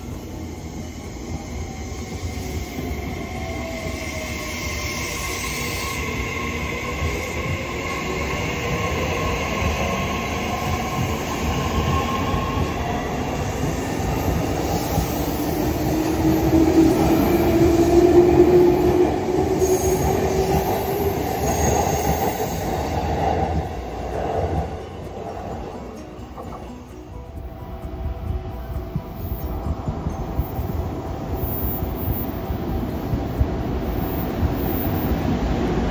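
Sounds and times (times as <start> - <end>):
train passing on rails: 0.0 - 35.9
train whine sliding in pitch: 0.0 - 35.9.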